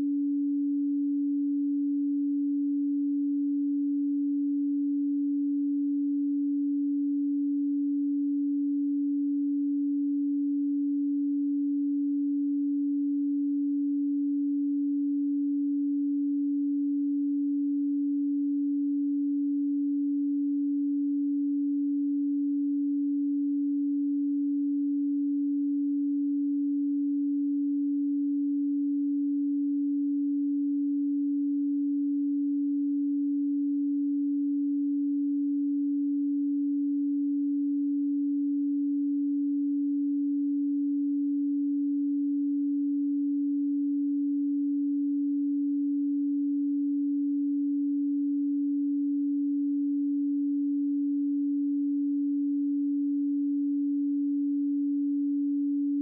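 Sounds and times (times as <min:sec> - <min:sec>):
pure sine tone: 0:00.0 - 0:56.0.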